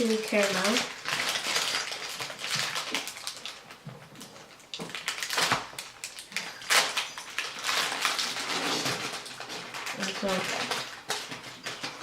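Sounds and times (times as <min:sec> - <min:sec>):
plastic snack packet crinkling: 0:00.0 - 0:12.0.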